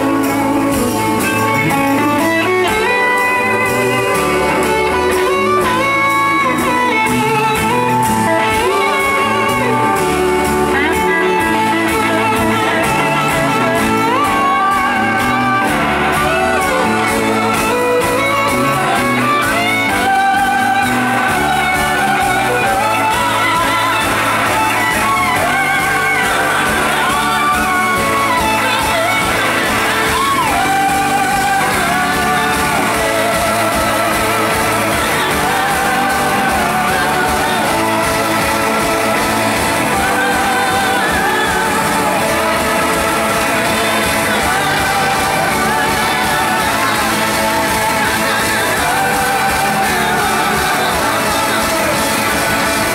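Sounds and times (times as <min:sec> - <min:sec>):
man singing: 0:00.0 - 0:52.9
rock band playing: 0:00.0 - 0:52.9.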